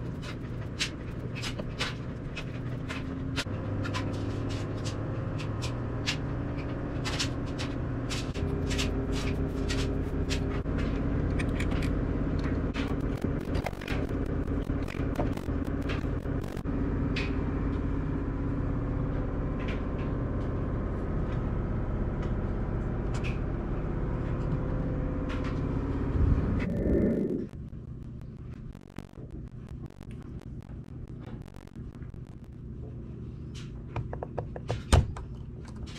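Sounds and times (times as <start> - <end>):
steady low hum: 0.0 - 34.3.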